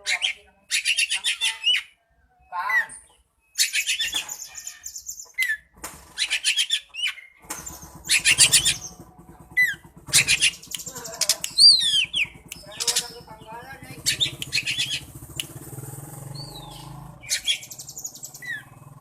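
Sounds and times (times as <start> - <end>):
bird singing harsh notes: 0.0 - 19.0.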